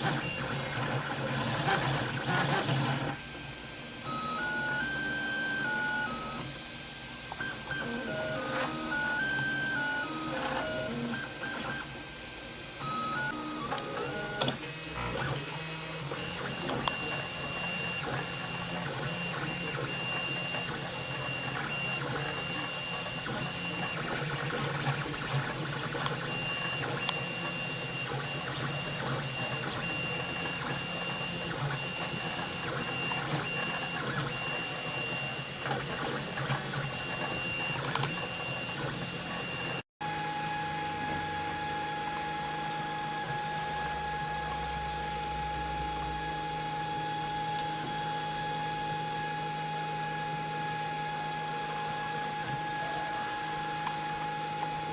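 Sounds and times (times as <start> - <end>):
printer stepper motors whirring: 0.0 - 54.9.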